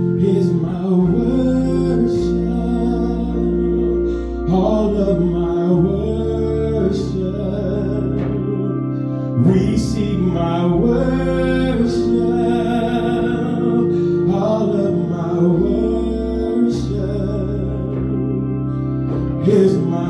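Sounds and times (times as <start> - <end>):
keyboard and bass: 0.0 - 20.0
person singing gospel: 0.0 - 20.0.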